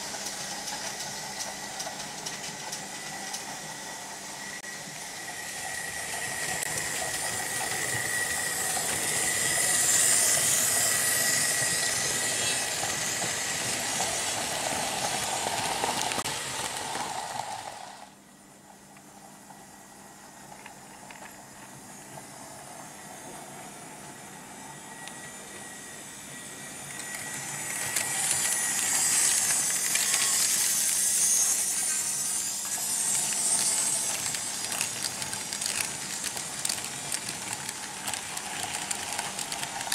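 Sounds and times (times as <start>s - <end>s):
model locomotive passing close: 0.0s - 18.2s, 20.6s - 39.9s
model trains whirring on rails: 0.0s - 39.9s
thin steady whine: 0.0s - 39.9s.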